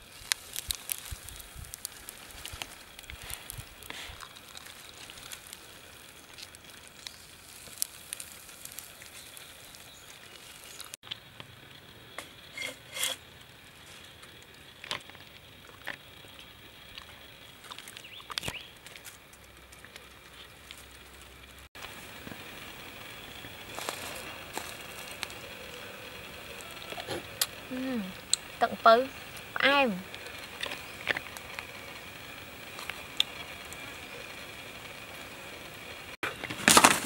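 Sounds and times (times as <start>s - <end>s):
faint outdoor hiss: 0.0s - 37.0s.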